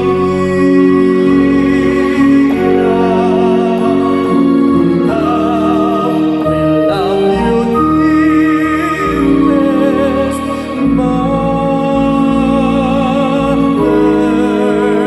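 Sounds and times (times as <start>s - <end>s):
hymn sung with vibrato: 0.0s - 15.0s
sustained accompaniment: 0.0s - 15.0s.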